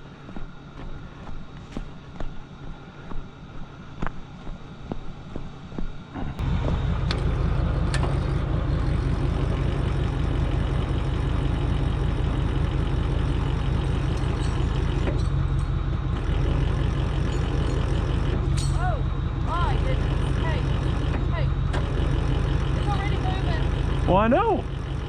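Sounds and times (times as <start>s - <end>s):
truck engine droning: 4.4s - 25.0s.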